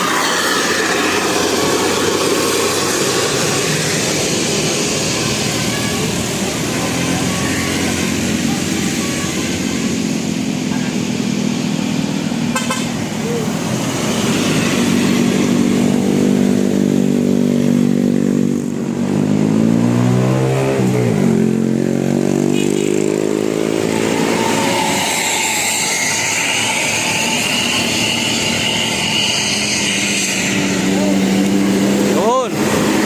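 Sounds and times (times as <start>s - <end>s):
vehicle engine revving: 0.0s - 33.0s.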